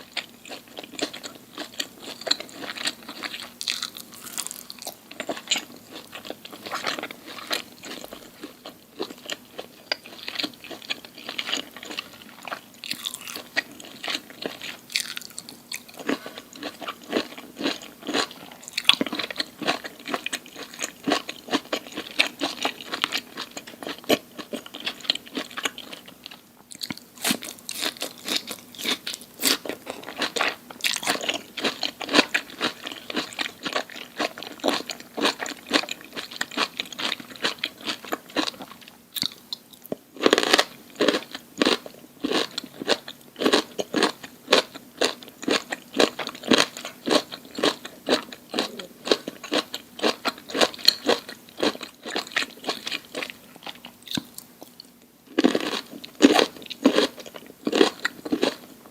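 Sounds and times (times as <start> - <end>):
crunching and chewing crisp food: 0.0 - 58.9.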